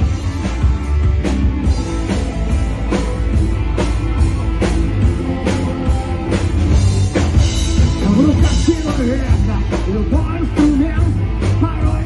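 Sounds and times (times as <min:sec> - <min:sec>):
rock band playing instrumental: 0:00.0 - 0:12.0.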